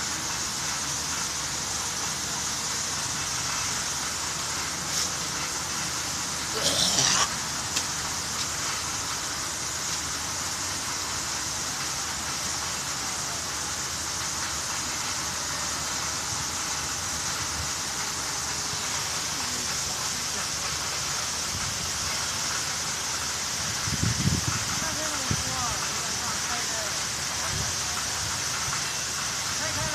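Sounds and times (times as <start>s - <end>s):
falling splashing water: 0.0s - 6.6s, 7.2s - 29.9s.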